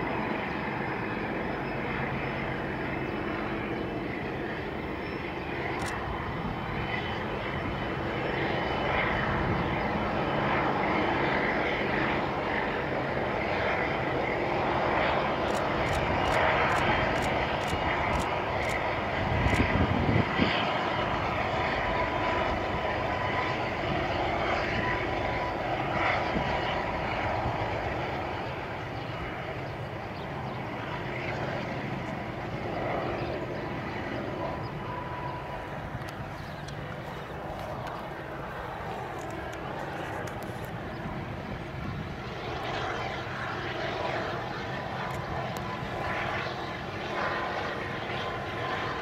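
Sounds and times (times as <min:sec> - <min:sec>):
distant locomotive engine drone: 0:00.0 - 0:49.0.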